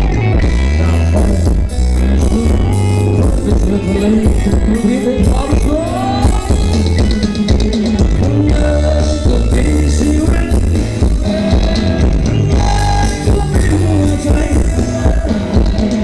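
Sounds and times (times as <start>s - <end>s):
dance band music through a pa: 0.0s - 16.0s.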